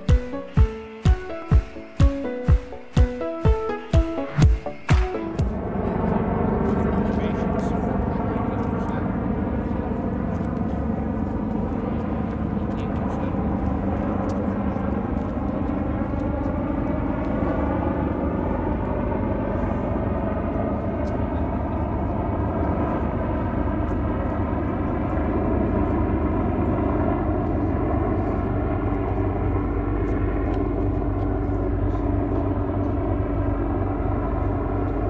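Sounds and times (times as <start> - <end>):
helicopter rotor and turbine drone: 0.0 - 35.0.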